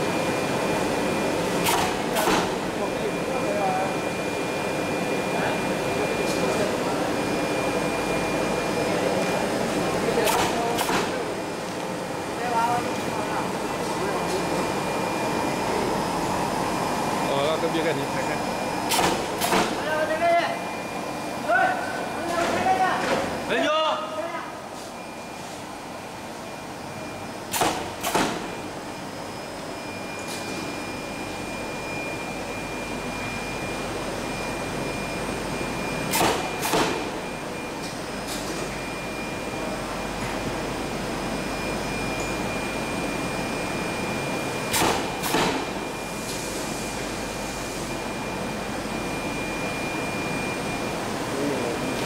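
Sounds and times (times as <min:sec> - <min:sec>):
machine hum: 0:00.0 - 0:52.0.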